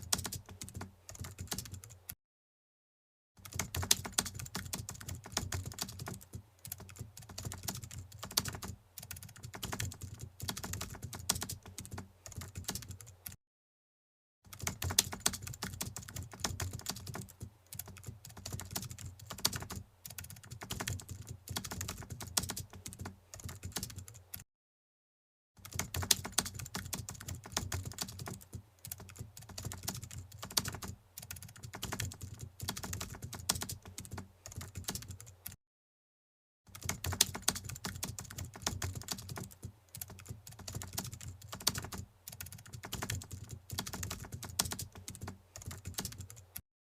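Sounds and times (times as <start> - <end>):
rapid keyboard typing: 0.0 - 2.0, 3.4 - 13.4, 14.5 - 24.4, 25.6 - 35.6, 36.7 - 46.6.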